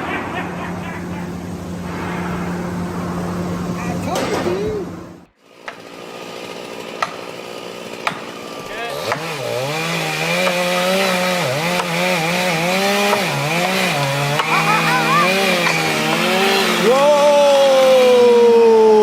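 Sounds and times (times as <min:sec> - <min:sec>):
small engine running: 0:03.3 - 0:19.0.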